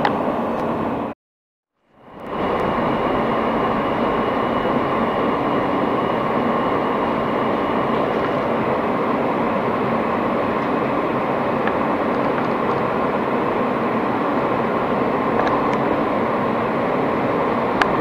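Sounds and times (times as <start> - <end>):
whining tones: 0.0 - 18.0
train wheels rumbling on rail: 1.9 - 18.0.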